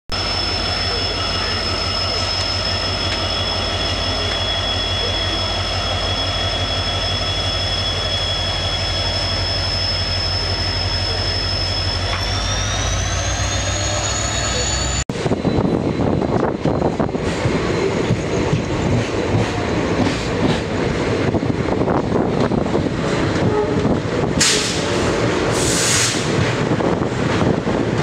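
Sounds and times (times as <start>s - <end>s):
diesel locomotive engine rumble: 0.1s - 28.0s.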